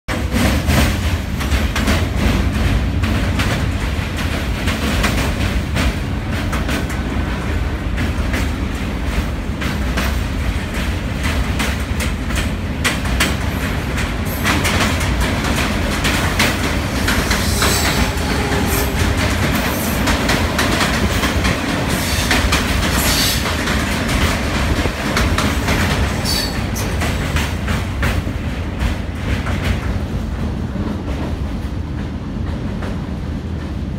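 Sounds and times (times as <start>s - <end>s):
wheels clattering over rails: 0.1s - 31.8s
train rumbling: 0.1s - 33.9s.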